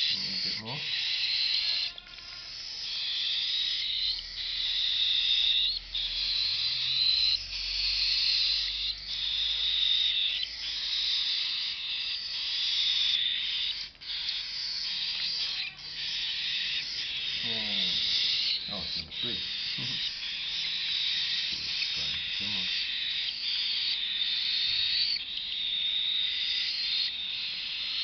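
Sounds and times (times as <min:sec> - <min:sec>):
bird chicks food-begging calls: 0:00.0 - 0:28.0.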